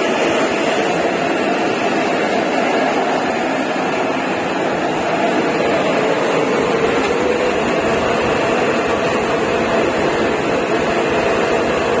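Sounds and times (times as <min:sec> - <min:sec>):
steam boiler roaring: 0:00.0 - 0:12.0.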